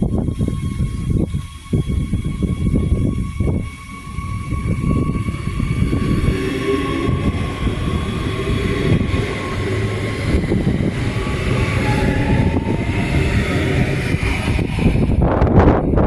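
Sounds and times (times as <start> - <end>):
train wheels rumbling on rail: 0.0 - 16.0
electric motor whine: 0.1 - 16.0.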